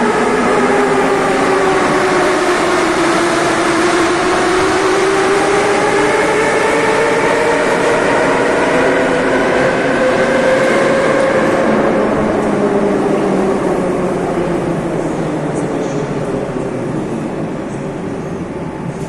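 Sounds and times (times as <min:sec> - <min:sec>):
train wheels rumbling on rails: 0:00.0 - 0:19.0
train whining while slowing: 0:00.0 - 0:19.0.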